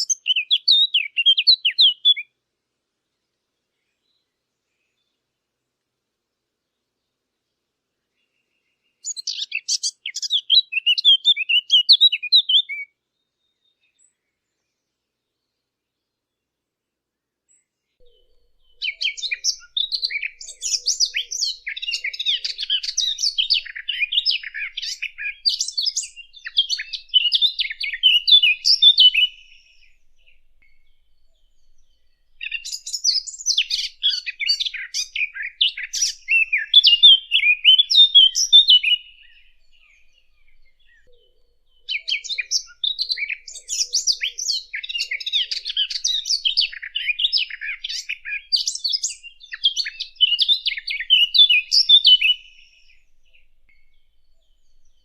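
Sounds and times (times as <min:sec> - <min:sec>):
warbler singing: 0:00.0 - 0:02.3, 0:08.1 - 0:16.1, 0:17.5 - 0:55.0.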